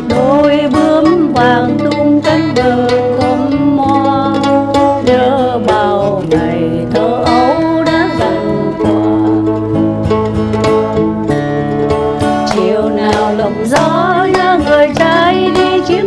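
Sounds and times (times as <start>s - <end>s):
acoustic guitar accompaniment: 0.0s - 16.0s
mandolin melody: 0.0s - 16.0s.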